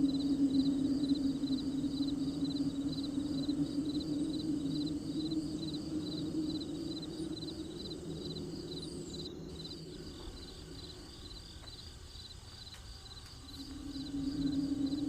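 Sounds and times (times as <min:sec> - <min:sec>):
field crickets chirping: 0:00.0 - 0:15.0
low steady hum: 0:00.0 - 0:15.0.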